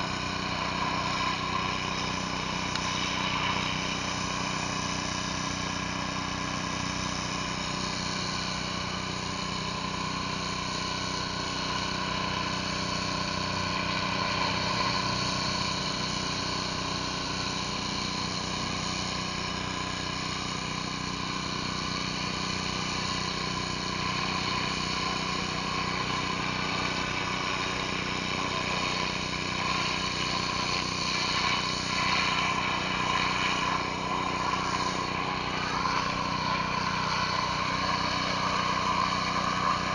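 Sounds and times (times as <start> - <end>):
high-pressure water hissing on concrete: 0.0 - 39.9
pressure washer engine running: 0.0 - 39.9.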